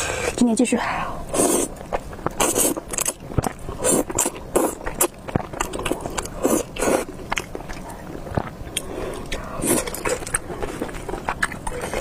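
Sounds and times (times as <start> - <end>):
slurping and chewing noodles: 1.3 - 12.0.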